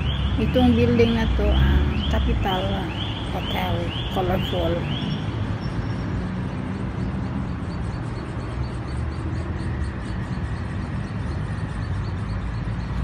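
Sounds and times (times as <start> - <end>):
rumble of passing cars: 0.0 - 13.0.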